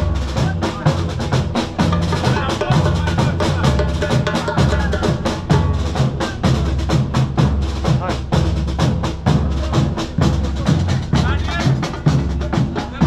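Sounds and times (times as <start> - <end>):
bass drum booms: 0.0 - 13.0
drums beating fast rhythm: 0.0 - 13.0.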